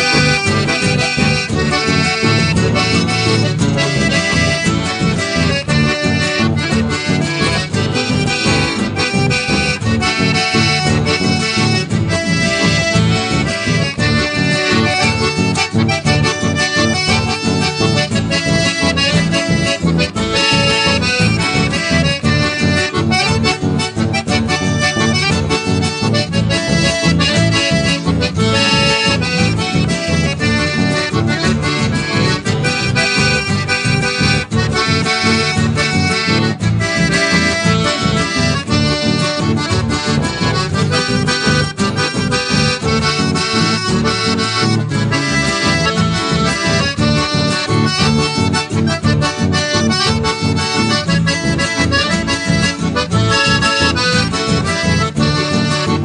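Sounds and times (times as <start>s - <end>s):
folk dance music with accordion: 0.0s - 56.0s.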